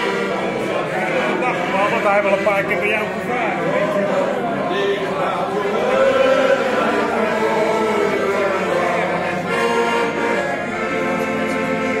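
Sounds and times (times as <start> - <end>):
piano accordion playing: 0.0 - 12.0.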